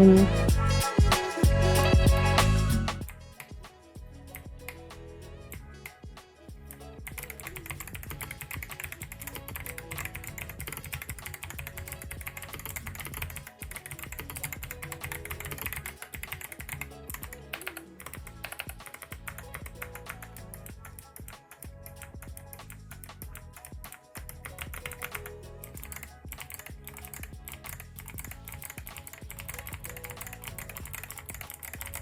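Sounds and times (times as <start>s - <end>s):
background music: 0.0s - 32.0s.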